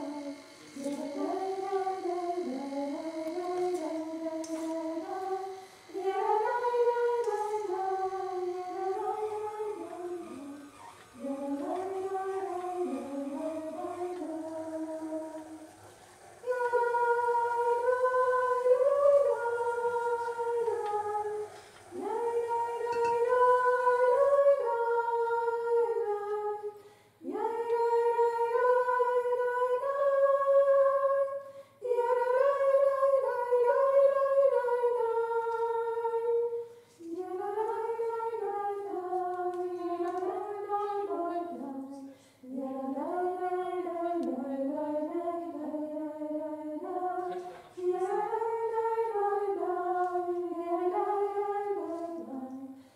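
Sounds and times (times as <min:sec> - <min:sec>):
woman singing wordless melody: 0:00.0 - 0:15.8, 0:16.4 - 0:52.9.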